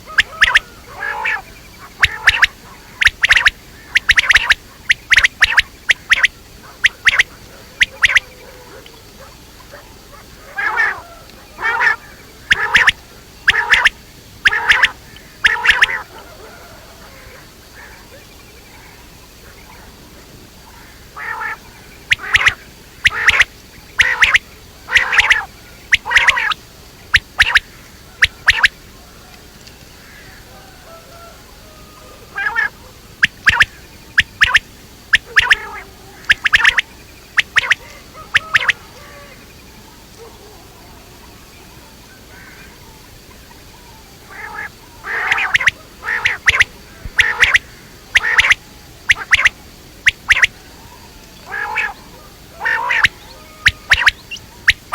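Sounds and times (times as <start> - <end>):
quail calling: 0.0 - 20.0, 20.6 - 40.7, 43.4 - 54.9.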